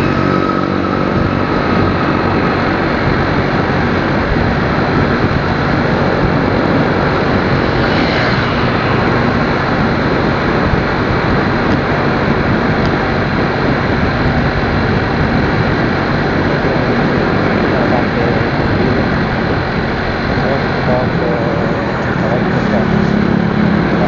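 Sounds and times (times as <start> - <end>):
motorcycle engine running: 0.0 - 24.0
wind and road noise roar: 0.0 - 24.0.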